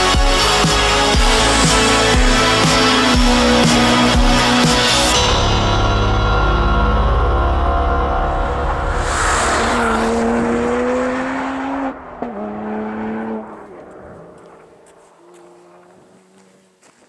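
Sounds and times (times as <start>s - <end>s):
rally car engine accelerating: 0.0s - 5.2s, 7.0s - 16.8s.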